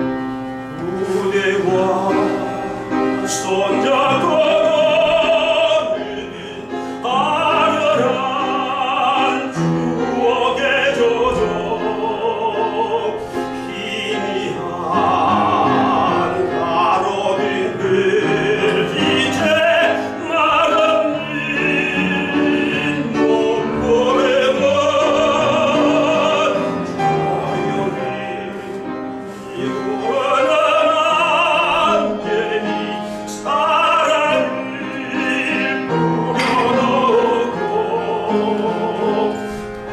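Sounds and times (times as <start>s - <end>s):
instrumental accompaniment: 0.0s - 39.9s
tenor singing operatically: 0.0s - 39.9s.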